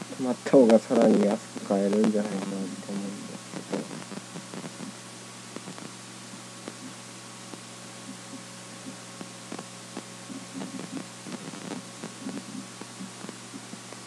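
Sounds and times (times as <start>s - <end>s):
electrical hum: 0.0s - 14.0s
recording hiss: 0.0s - 14.0s
soft low sounds: 0.0s - 14.0s.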